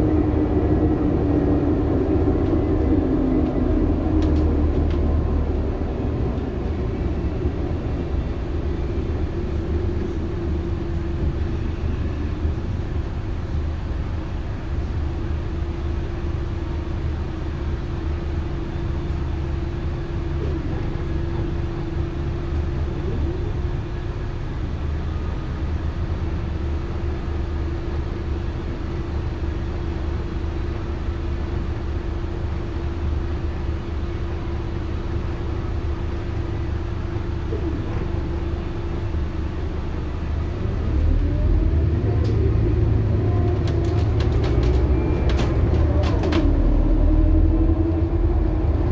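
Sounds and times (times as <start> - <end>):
bus engine drone: 0.0 - 48.9.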